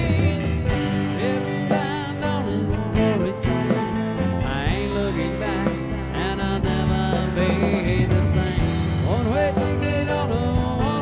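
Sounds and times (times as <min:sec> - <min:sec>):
country song: 0:00.0 - 0:11.0.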